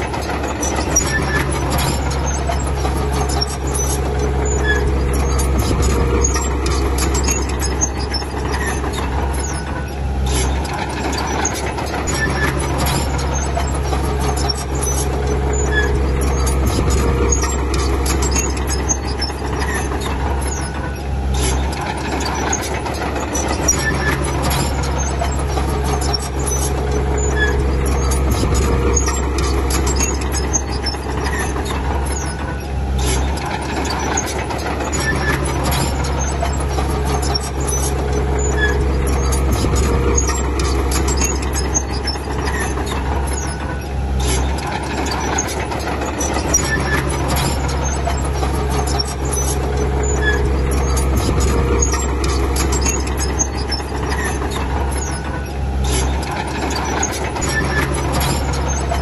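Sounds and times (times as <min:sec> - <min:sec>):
bulldozer diesel engine under load: 0:00.0 - 0:59.0
tracks squeaking and clanking: 0:00.0 - 0:59.0.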